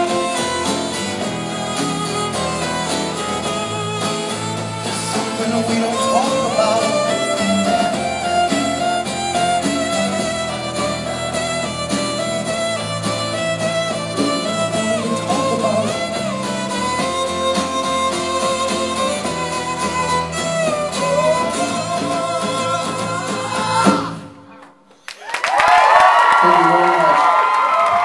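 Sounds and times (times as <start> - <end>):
bass: 0.0 - 24.5
fiddle melody: 0.0 - 24.6
strummed acoustic guitars: 0.0 - 25.0.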